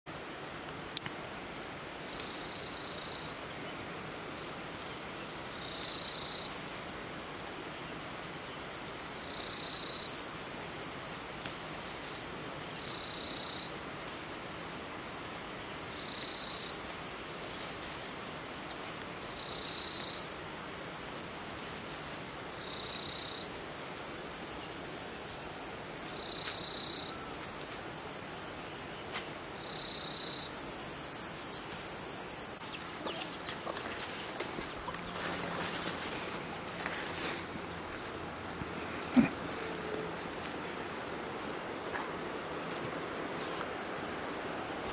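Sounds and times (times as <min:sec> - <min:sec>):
insects high-pitched drone: 0:01.9 - 0:44.9.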